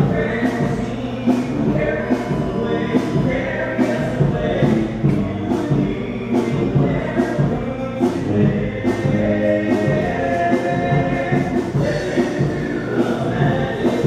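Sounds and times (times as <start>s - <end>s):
choir-like singing: 0.0s - 14.0s.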